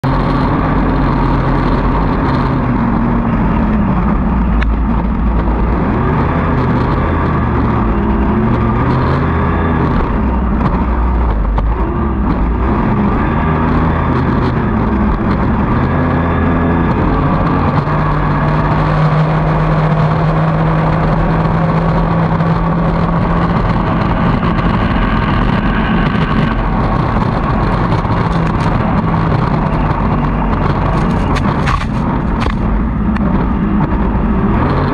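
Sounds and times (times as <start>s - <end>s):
outboard racing engine running: 0.0s - 34.9s
rushing wind: 0.0s - 34.9s.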